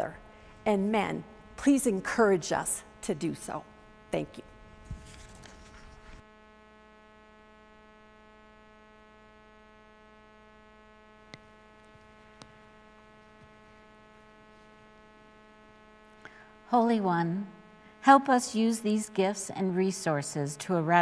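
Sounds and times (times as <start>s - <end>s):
faint electrical mains hum: 0.0s - 21.0s.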